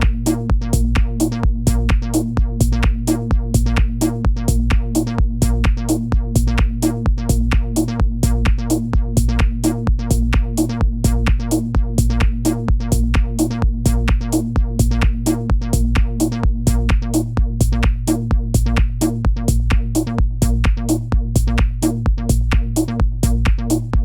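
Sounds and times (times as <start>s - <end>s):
drum machine pattern: 0.0s - 24.0s
low bass drone: 0.0s - 24.0s.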